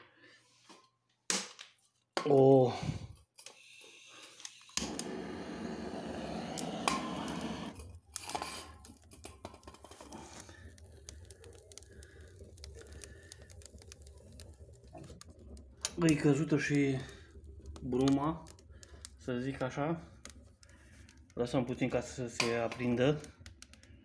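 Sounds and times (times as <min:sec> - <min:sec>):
burning wood crackling: 0:02.6 - 0:24.0
fire rushing hiss: 0:04.6 - 0:23.8.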